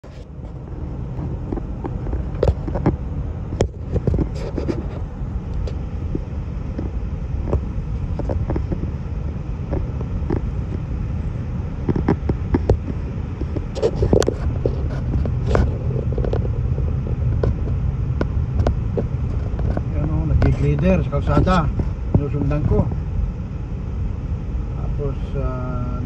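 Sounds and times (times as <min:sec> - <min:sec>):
car road noise rumble: 0:00.0 - 0:26.0.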